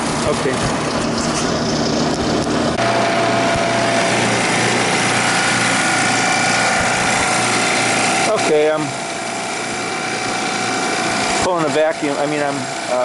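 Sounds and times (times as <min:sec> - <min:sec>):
faint steady whine: 0:00.0 - 0:13.0
recovery machine mechanical hum: 0:00.0 - 0:13.0.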